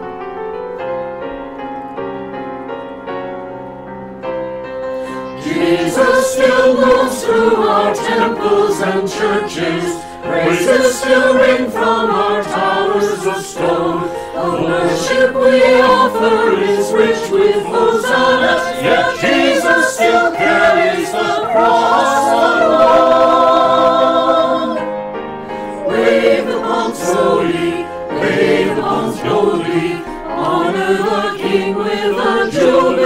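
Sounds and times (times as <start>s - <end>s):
piano accompaniment: 0.0s - 33.0s
mixed choir singing: 5.0s - 33.0s.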